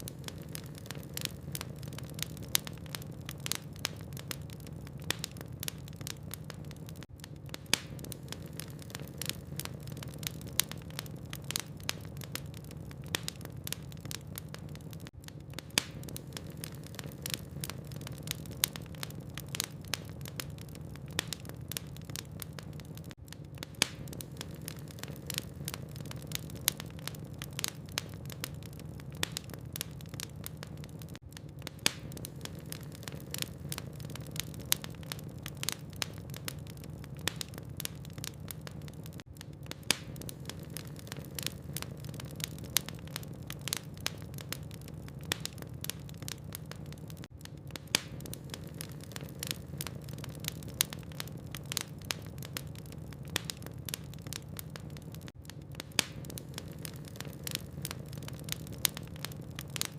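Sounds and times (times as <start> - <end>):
low fire rumble: 0.0 - 59.9
wood fire popping and snapping: 0.0 - 59.9.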